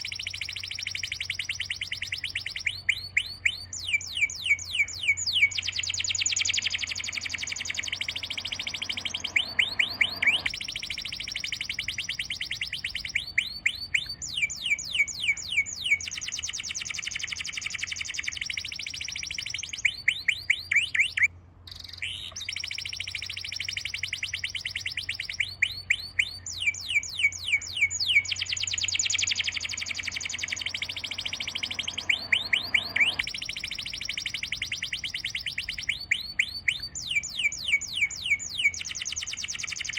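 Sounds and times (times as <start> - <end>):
bird trilling chirps: 0.0 - 39.9.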